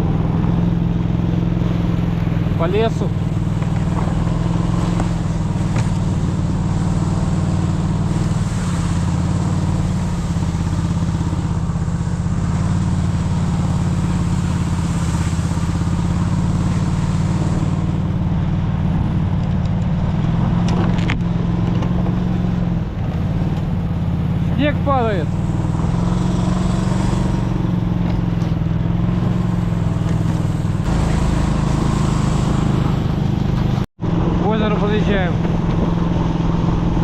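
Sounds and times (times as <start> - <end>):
snowmobile engine running: 0.0 - 37.0.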